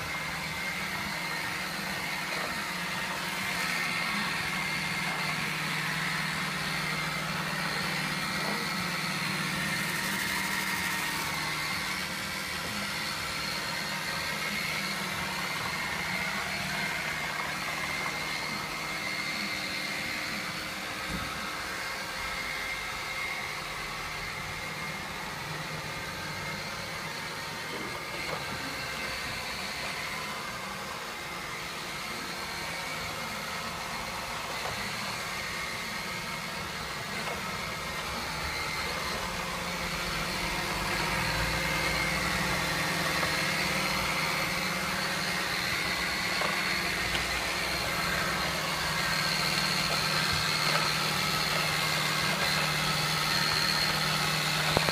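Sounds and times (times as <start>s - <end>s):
robot vacuum whirring: 0.0s - 54.9s.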